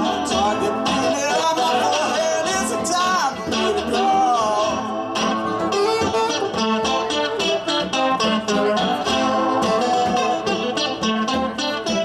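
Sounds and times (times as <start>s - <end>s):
live band with strummed guitar: 0.0s - 12.0s.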